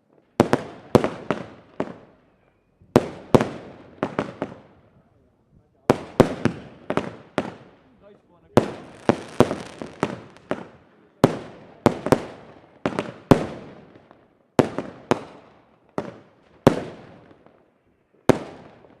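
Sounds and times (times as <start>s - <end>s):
fireworks bangs with echoing rumble: 0.0s - 19.0s.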